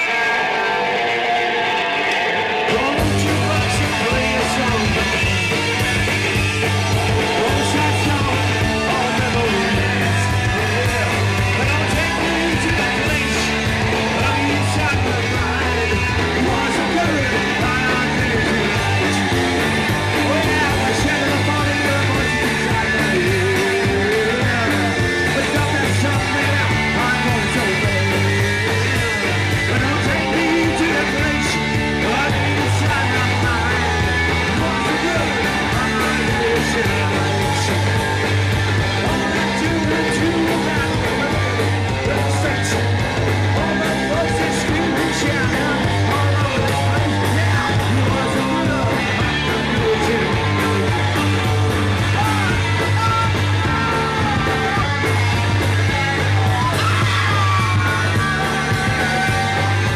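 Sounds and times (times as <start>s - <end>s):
drum kit: 0.0s - 59.9s
electric guitar: 0.0s - 59.9s
man singing into a microphone: 2.6s - 59.9s.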